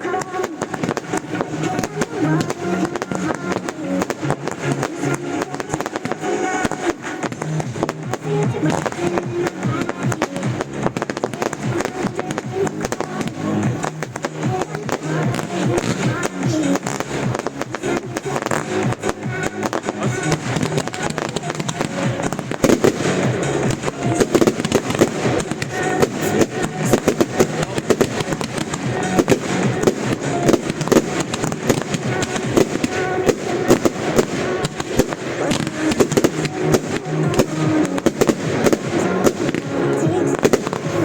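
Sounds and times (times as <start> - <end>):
fireworks bangs and crackles: 0.0 - 41.0
music playing: 0.0 - 41.0.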